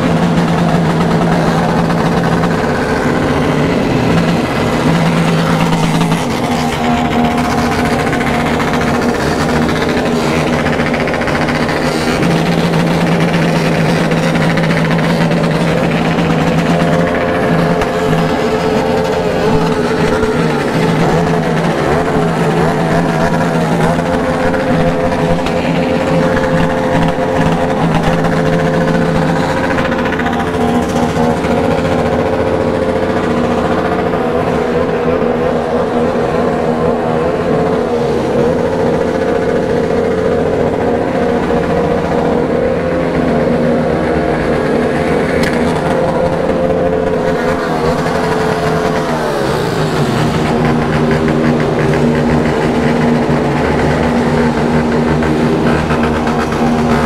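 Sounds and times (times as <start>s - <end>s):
motorcycle engines idling and revving: 0.0s - 57.0s.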